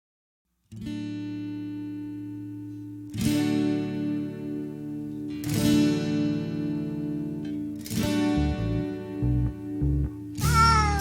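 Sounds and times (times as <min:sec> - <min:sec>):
strummed acoustic guitar: 0:00.7 - 0:11.0.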